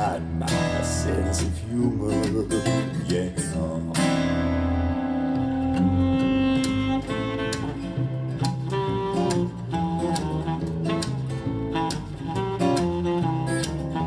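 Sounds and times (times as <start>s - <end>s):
guitar picking notes: 0.0s - 14.0s.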